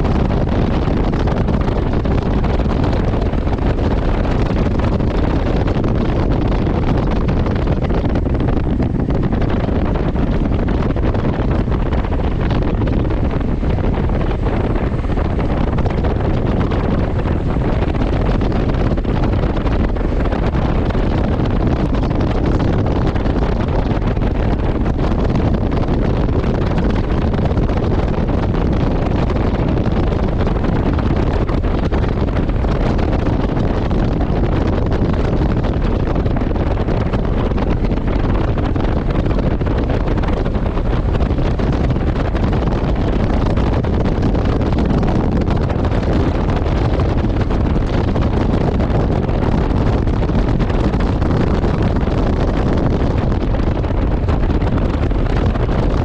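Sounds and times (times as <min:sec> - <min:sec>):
motorcycle and road drone: 0:00.0 - 0:56.0
wind rushing over microphone: 0:00.0 - 0:56.0.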